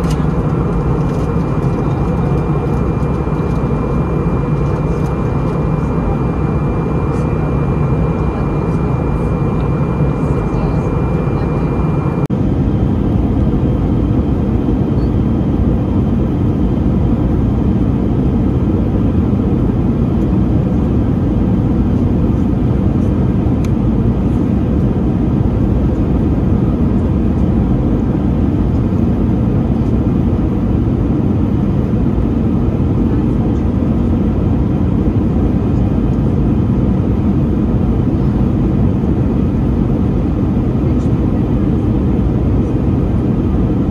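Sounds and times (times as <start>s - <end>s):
jet engine cabin rumble: 0.0s - 43.9s.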